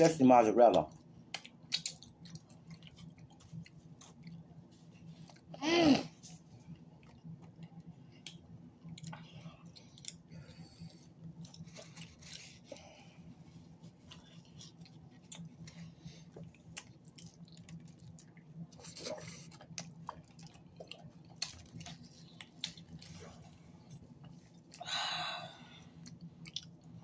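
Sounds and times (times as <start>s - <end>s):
faint chewing with mouth clicks: 0.6s - 5.6s, 6.2s - 25.0s, 25.7s - 27.0s.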